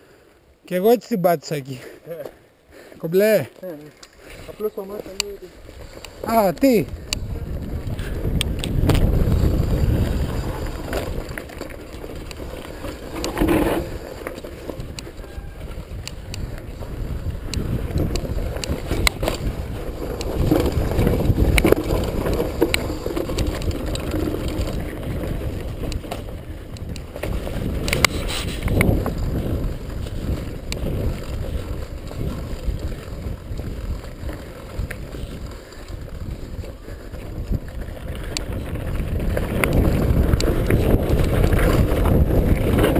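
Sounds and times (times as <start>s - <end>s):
bike tyres crunching over dirt: 1.6s - 42.9s
bike rattling over bumps: 3.2s - 42.9s.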